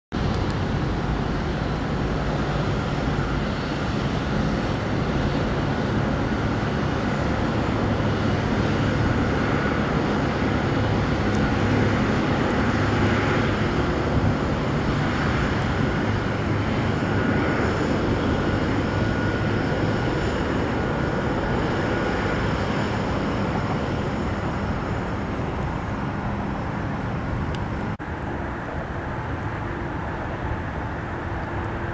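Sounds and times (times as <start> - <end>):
jet engines rumbling: 0.1 - 31.9.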